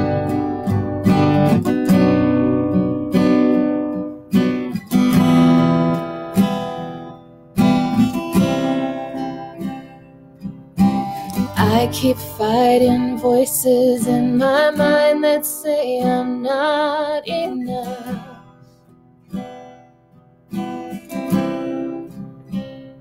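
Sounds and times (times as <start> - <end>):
acoustic guitar strummed: 0.0 - 23.0.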